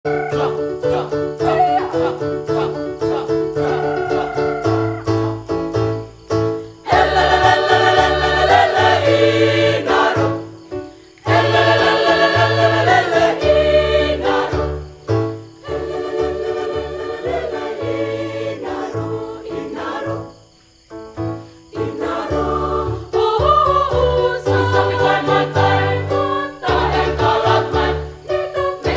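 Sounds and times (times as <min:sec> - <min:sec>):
choir singing: 0:00.1 - 0:05.4, 0:06.8 - 0:10.6, 0:11.2 - 0:15.0, 0:15.6 - 0:20.4, 0:21.7 - 0:28.9.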